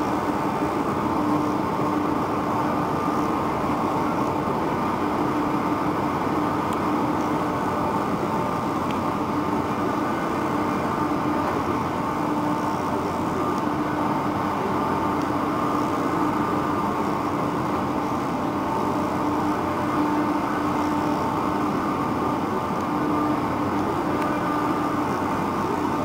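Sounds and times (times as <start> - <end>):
ship engines droning: 0.0 - 26.0.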